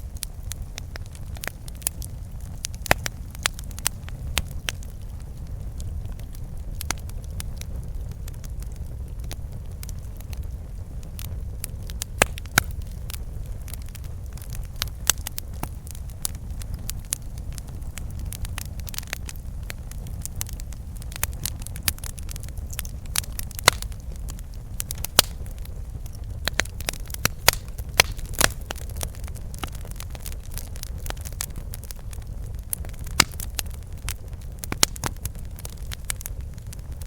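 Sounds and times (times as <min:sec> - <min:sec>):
burning wood crackling: 0:00.0 - 0:37.0
flames rumbling: 0:00.0 - 0:37.0.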